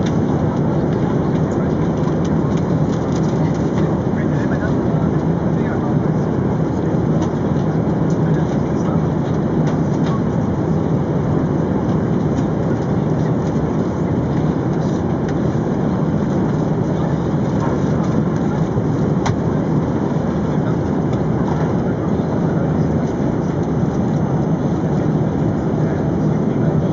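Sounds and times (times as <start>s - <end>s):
airplane cabin rumble: 0.0s - 26.9s.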